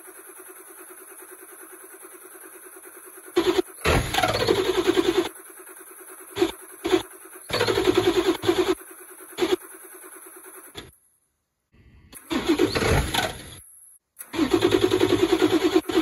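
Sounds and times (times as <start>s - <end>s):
starter cranking diesel engine: 0.0s - 11.0s, 12.1s - 16.0s.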